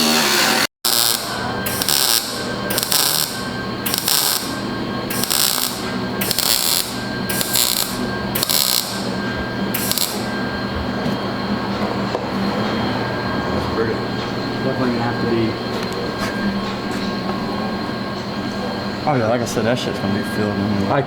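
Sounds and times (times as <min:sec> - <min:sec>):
steady low hum: 0:00.2 - 0:21.0.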